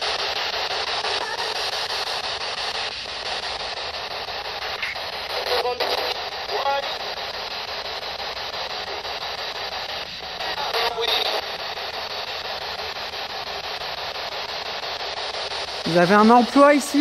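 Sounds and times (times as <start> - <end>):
radio static hiss chopped by scanning: 0.0 - 17.0.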